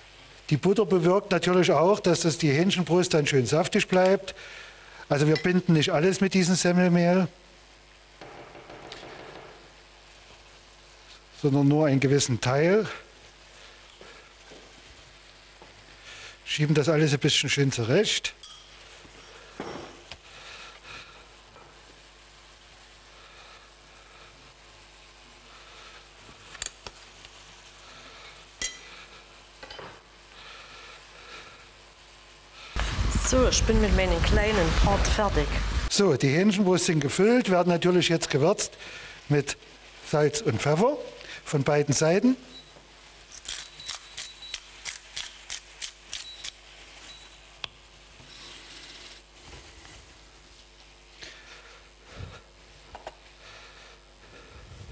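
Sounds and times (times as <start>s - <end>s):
frying pan sizzling: 0.0s - 54.8s.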